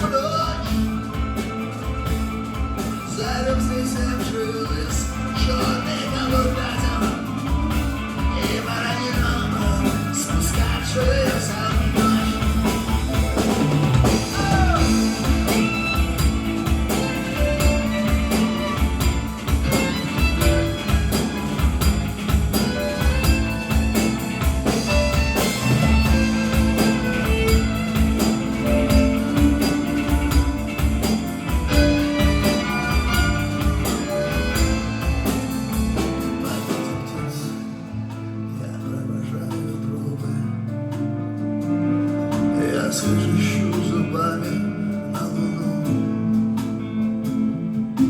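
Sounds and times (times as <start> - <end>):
person singing: 0.0 - 21.4, 22.6 - 40.7, 42.3 - 46.6
live band playing: 0.0 - 48.0.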